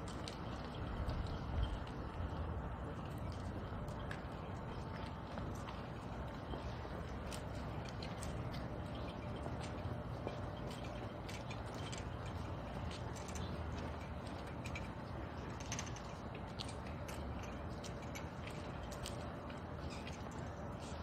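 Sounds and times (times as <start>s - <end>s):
footsteps on paved street: 0.0s - 21.0s
low background noise: 0.0s - 21.0s.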